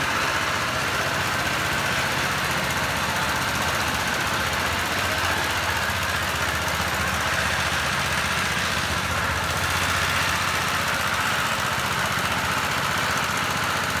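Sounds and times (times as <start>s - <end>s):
tractor diesel engine chugging: 0.0s - 14.0s.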